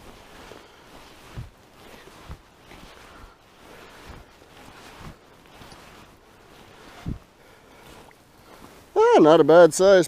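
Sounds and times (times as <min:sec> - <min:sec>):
wind gusting against microphone: 0:00.0 - 0:09.2.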